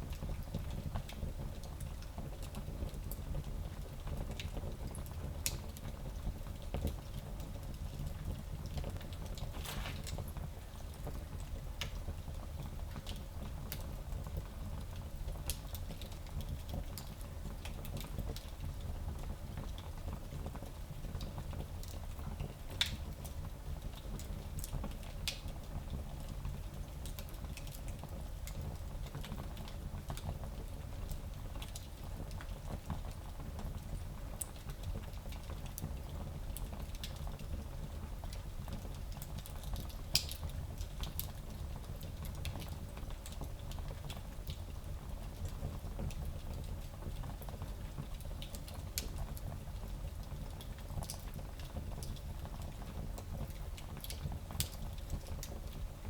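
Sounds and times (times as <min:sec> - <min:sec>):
low fire rumble: 0:00.0 - 0:56.0
wood fire crackling and popping: 0:00.1 - 0:56.0.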